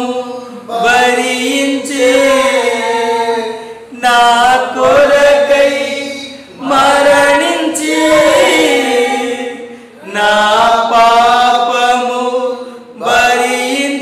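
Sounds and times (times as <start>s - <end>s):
man singing worship song: 0.0s - 14.0s.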